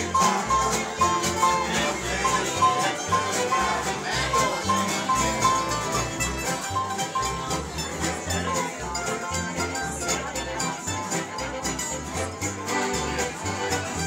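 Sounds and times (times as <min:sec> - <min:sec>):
bluegrass string band playing: 0:00.0 - 0:14.0.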